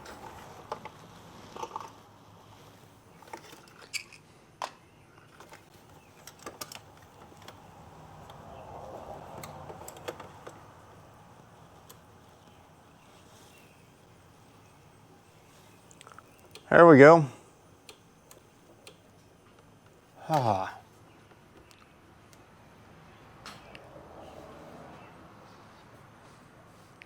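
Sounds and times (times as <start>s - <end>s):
faint hiss: 0.0s - 27.0s.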